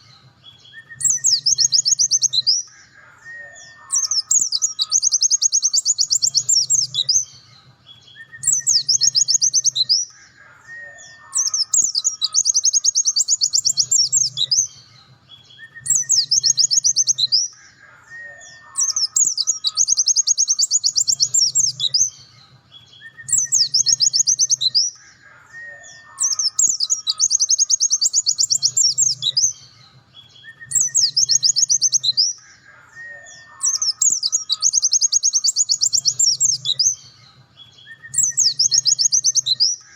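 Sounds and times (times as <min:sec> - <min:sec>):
bird singing high rattling trills: 0:00.0 - 0:02.7, 0:03.5 - 0:10.1, 0:10.9 - 0:17.6, 0:18.4 - 0:25.0, 0:25.8 - 0:32.4, 0:33.2 - 0:39.9.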